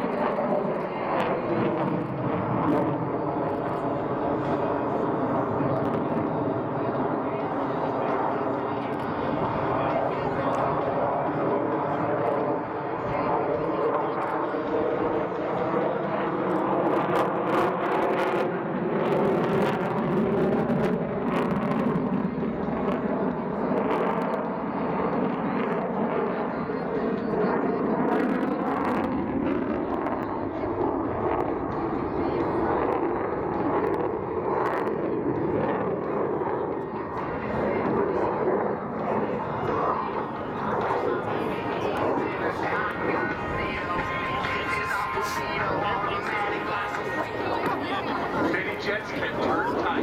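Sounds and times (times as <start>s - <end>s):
fighter jet engine noise: 0.0s - 50.0s.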